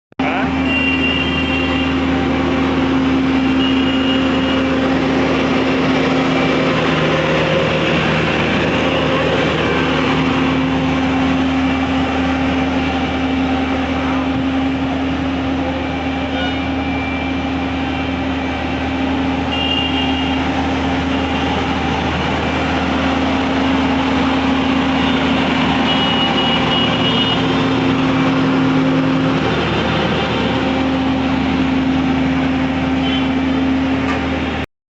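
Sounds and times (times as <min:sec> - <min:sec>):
road roller engine running: 0:00.2 - 0:34.7.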